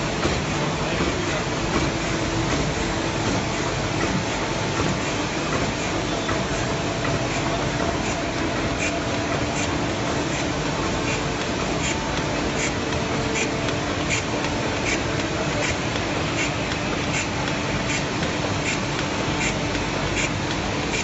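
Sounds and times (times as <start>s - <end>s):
bag-making machine strokes: 0.0s - 21.0s
mechanical hum and hiss: 0.0s - 21.0s.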